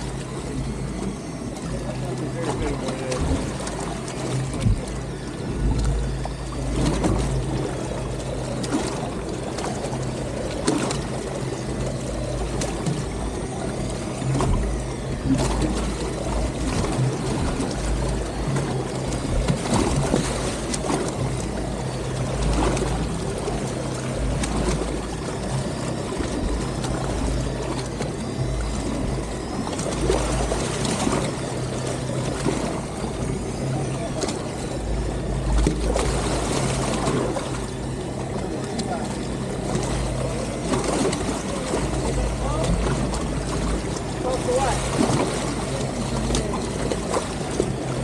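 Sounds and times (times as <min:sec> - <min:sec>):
boat engine idling: 0:00.0 - 0:48.0
water slapping against hull: 0:00.0 - 0:48.0.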